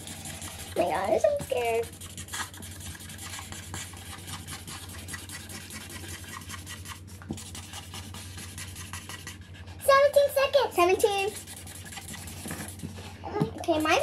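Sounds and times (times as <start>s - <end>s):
markers scribbling on paper: 0.0s - 14.0s
steady low hum: 0.0s - 14.0s.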